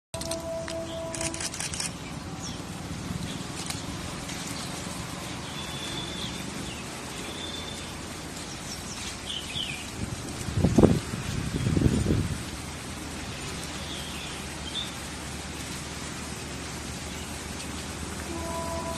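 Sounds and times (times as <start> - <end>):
low outdoor background noise: 0.2 - 18.9.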